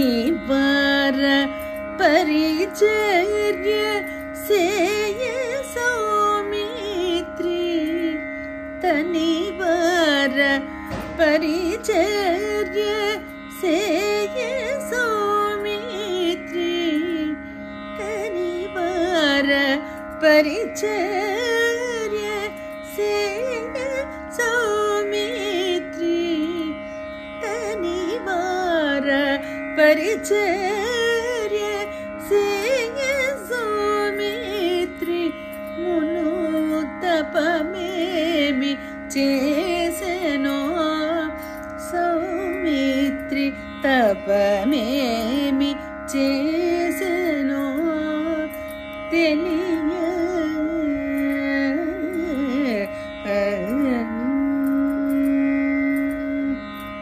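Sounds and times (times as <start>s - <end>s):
woman singing: 0.0s - 57.0s.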